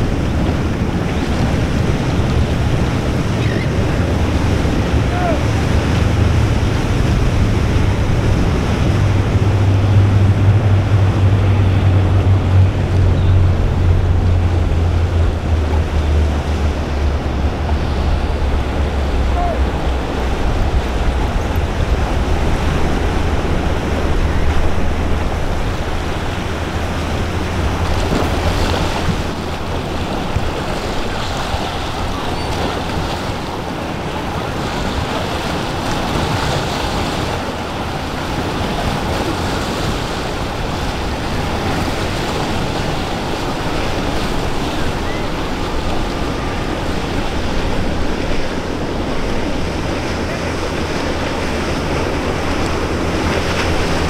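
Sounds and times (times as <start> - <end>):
waves and surf: 0.0 - 54.0
wind buffeting microphone: 0.0 - 54.0.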